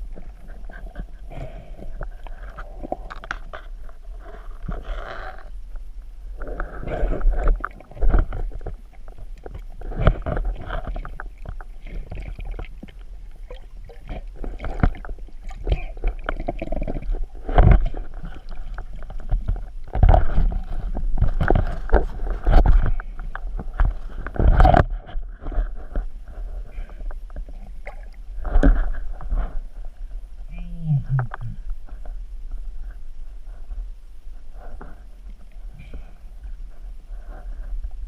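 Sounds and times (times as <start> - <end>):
water sloshing and gurgling: 0.0 - 38.0.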